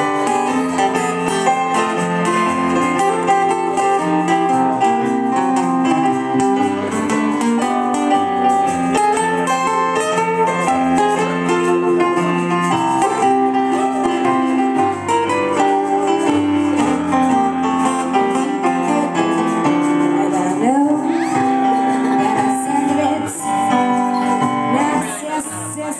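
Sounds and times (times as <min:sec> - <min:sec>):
acoustic guitar: 0:00.0 - 0:25.9.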